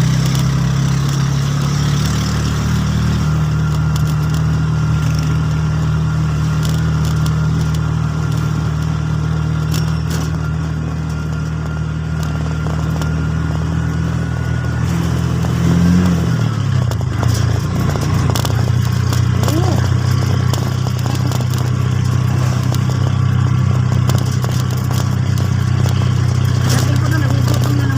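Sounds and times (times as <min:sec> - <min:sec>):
vehicle engine running: 0:00.0 - 0:27.9.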